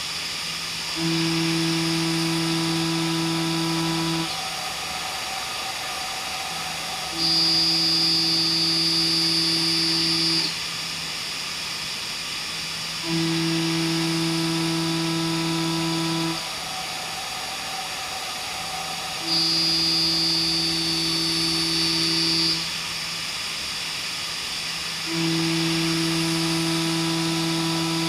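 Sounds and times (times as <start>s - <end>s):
low machine hum and hiss: 0.0s - 28.0s
milling machine cutting tone: 0.9s - 10.7s, 12.6s - 22.8s, 25.0s - 28.0s.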